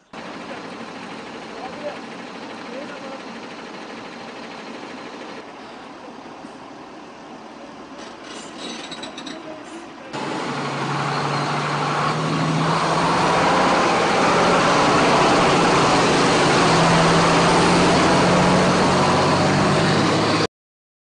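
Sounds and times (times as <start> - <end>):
diesel engine running: 0.0 - 7.9, 9.9 - 20.5.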